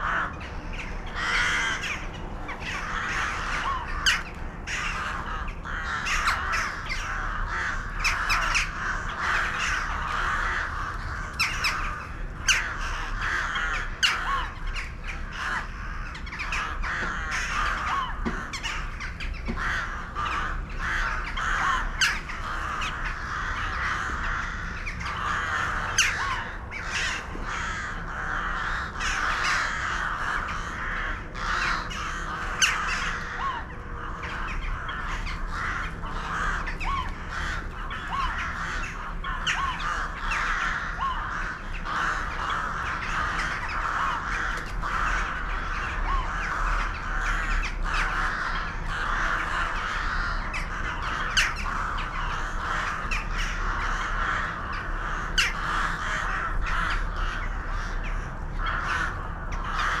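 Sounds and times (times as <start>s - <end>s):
flock of birds chattering: 0.0s - 60.0s
sharp bird calls: 0.0s - 60.0s.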